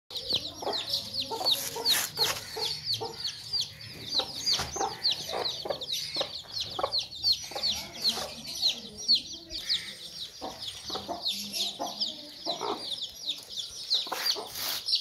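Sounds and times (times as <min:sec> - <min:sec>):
chicks peeping: 0:00.1 - 0:15.0
hen clucking: 0:00.1 - 0:15.0.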